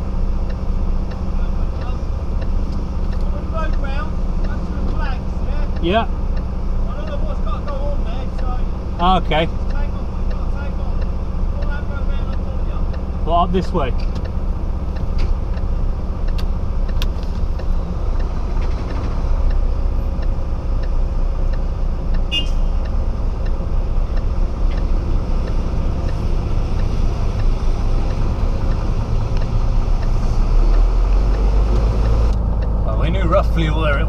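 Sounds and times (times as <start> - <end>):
lorry engine and road rumble: 0.0 - 34.0.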